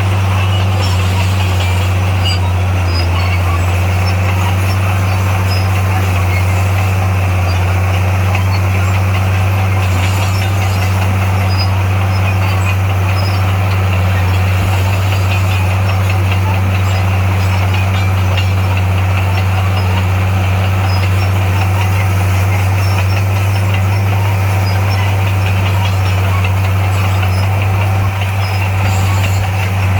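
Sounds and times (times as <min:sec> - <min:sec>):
heavy diesel engine droning: 0:00.0 - 0:29.9.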